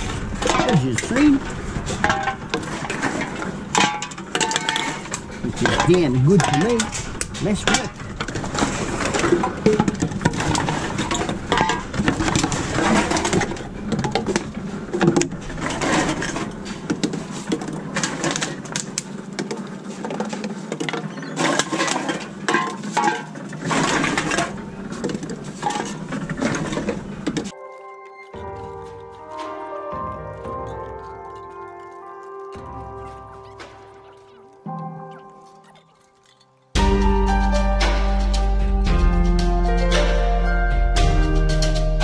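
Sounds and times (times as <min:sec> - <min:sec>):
cans and bottles clattering: 0:00.0 - 0:36.8.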